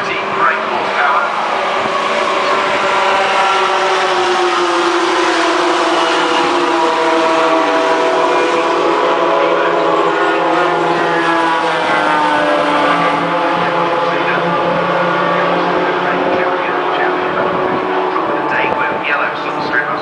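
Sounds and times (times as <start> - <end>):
racing truck engines running: 0.0 - 20.0.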